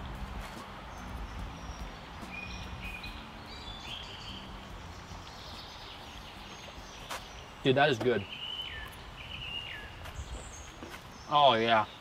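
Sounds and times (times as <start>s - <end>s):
creek water rushing: 0.0s - 11.2s
high bird chirps: 0.9s - 12.0s.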